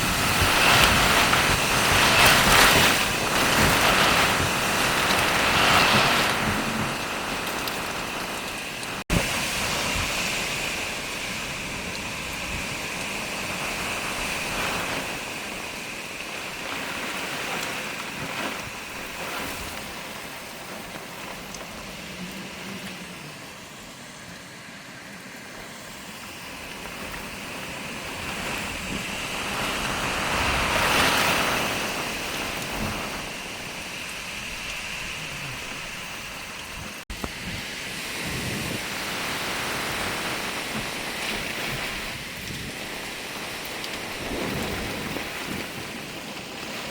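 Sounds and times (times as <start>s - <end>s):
wind and rain rushing: 0.0s - 46.9s.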